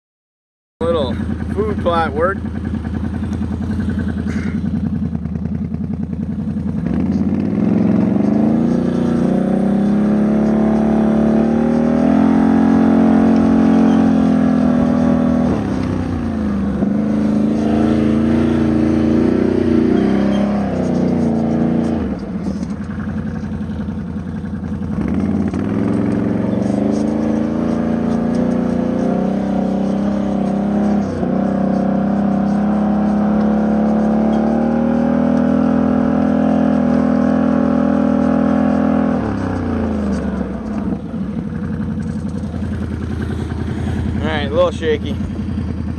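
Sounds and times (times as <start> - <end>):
atv engine revving under load: 0.8 - 45.9.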